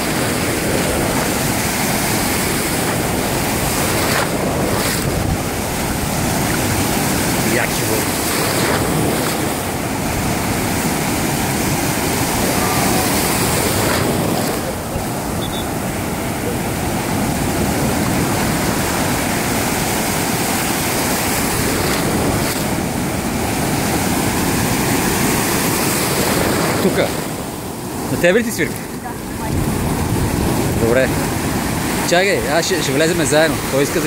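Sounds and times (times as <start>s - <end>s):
rough surf waves breaking: 0.0s - 34.0s.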